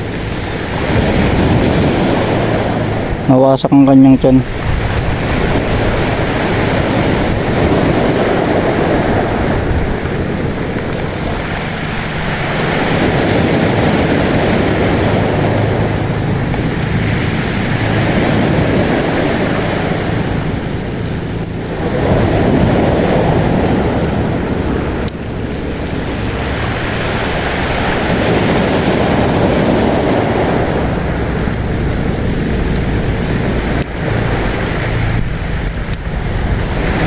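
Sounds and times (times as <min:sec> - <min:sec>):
sea surf: 0:00.0 - 0:37.0
wind on microphone: 0:00.0 - 0:37.0.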